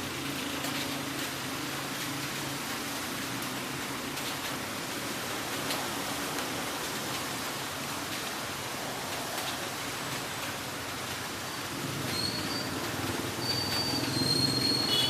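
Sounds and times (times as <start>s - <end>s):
heavy rain hissing: 0.0s - 15.0s
raindrop ticks: 0.0s - 15.0s.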